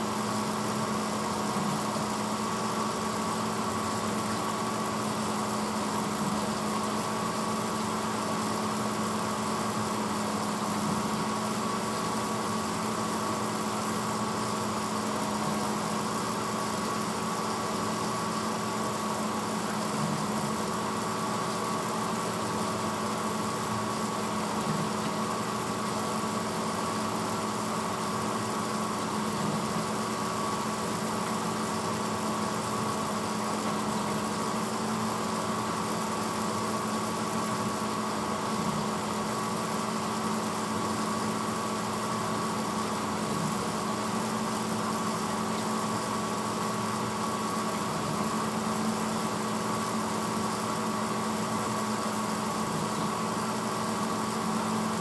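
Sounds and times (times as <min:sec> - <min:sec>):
dishwasher motor hum: 0:00.0 - 0:55.0.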